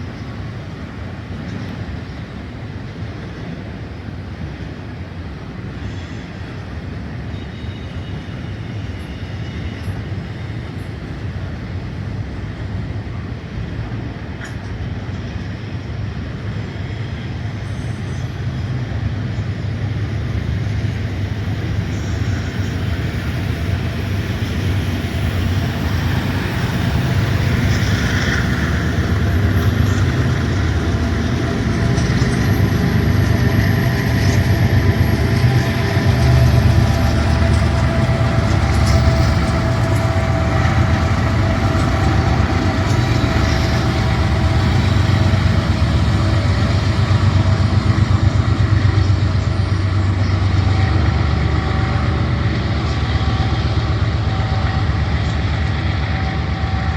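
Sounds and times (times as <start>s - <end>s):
locomotive engine rumble: 8.1s - 56.9s.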